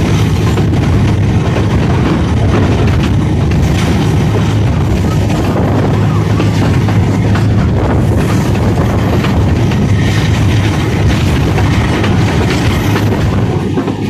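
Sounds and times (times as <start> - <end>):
train rumble: 0.0 - 14.0
wheels clattering on rails: 0.0 - 14.0.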